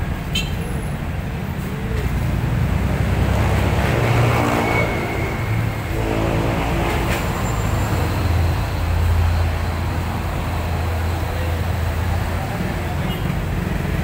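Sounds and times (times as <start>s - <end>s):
cars and motorcycles passing: 0.0s - 14.0s
truck engine rumbling: 0.0s - 14.0s.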